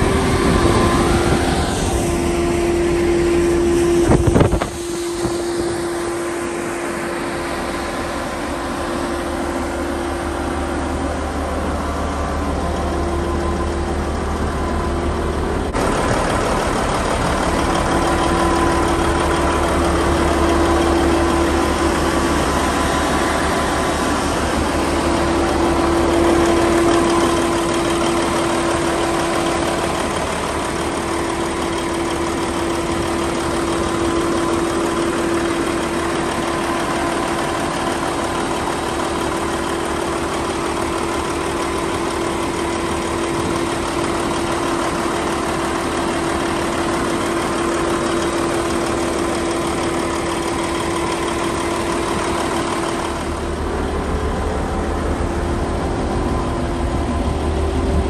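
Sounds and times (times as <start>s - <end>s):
constant hum: 0.0s - 58.0s
diesel engine idling: 0.0s - 58.0s.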